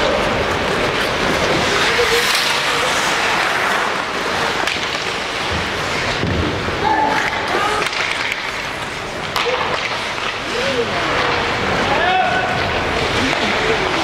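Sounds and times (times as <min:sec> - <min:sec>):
skate blades scraping ice: 0:00.0 - 0:14.0.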